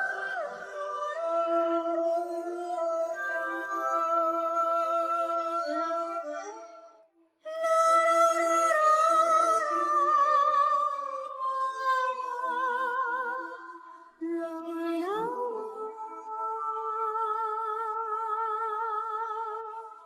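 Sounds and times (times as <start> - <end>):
a cappella female choir: 0.0 - 6.6, 7.4 - 20.0.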